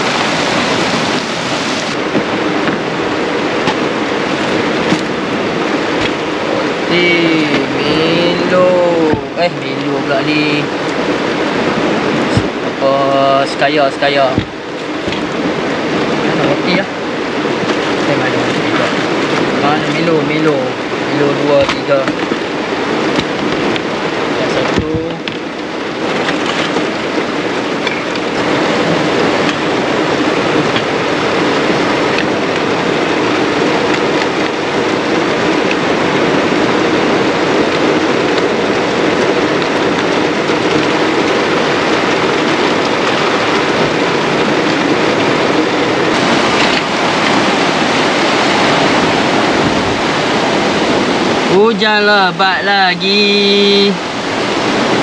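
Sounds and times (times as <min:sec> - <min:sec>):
heavy rain on car: 0:00.0 - 0:55.0.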